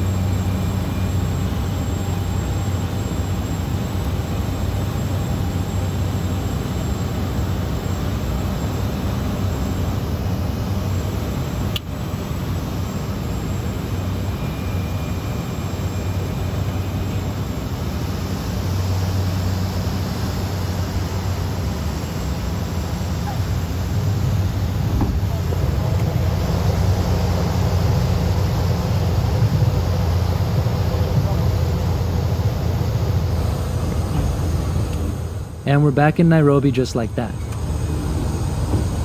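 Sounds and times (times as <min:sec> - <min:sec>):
turboprop engine drone: 0:00.0 - 0:39.0.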